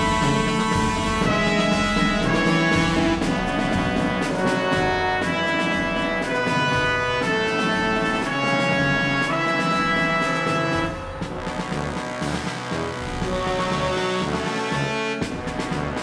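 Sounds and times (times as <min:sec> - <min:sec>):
instrumental music with brass: 0:00.0 - 0:16.0.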